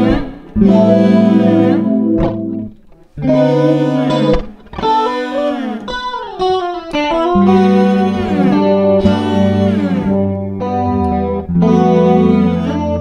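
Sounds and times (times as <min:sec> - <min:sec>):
guitar music with effects: 0:00.0 - 0:13.0.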